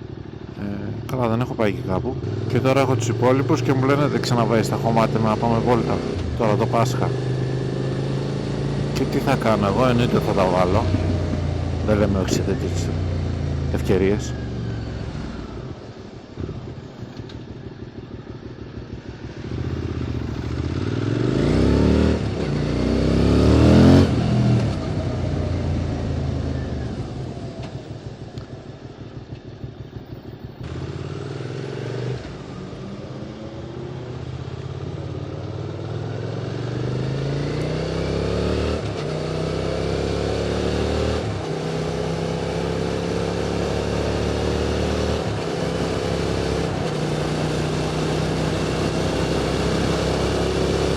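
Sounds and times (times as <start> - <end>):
motorcycle accelerating with upshifts: 1.8 - 50.9.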